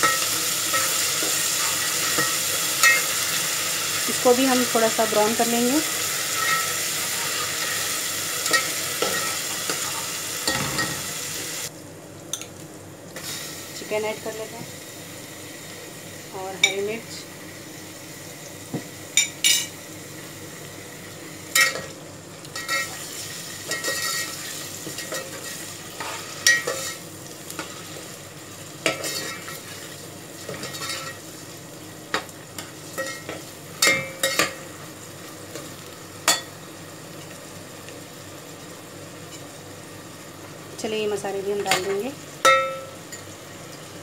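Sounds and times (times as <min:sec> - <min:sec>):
food sizzling in hot oil: 0:00.0 - 0:44.0.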